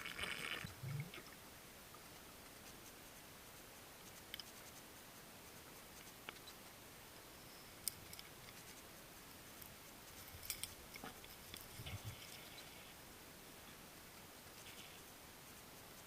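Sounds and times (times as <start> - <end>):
low underwater hiss: 0.0 - 16.0.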